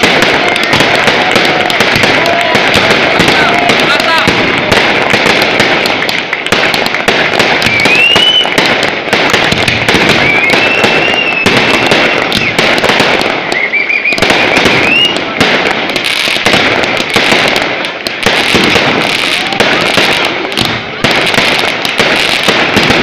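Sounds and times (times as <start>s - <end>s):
fireworks bangs and crackle: 0.0s - 23.0s
fireworks whistles gliding upward: 0.0s - 23.0s.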